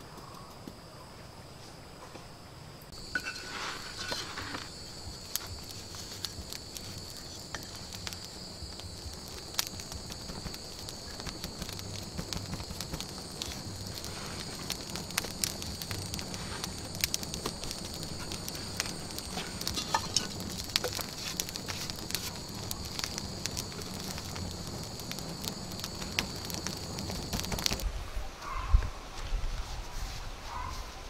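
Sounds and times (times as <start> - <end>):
night insects trilling: 0.0 - 27.8
fire crackling and popping: 2.8 - 28.2.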